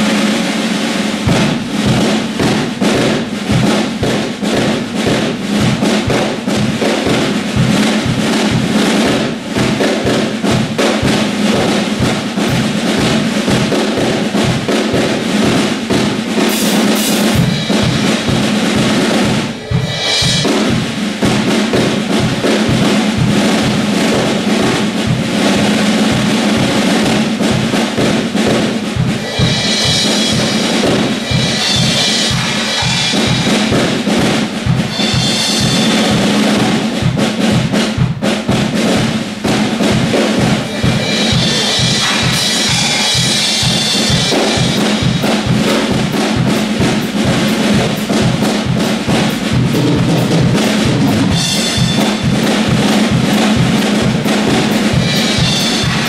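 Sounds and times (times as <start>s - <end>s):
drum kit solo: 0.0s - 56.0s.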